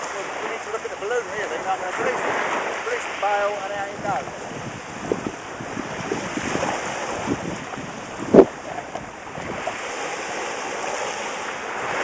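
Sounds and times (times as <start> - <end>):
waves breaking on shore: 0.0 - 12.0
wind buffeting microphone: 0.0 - 12.0.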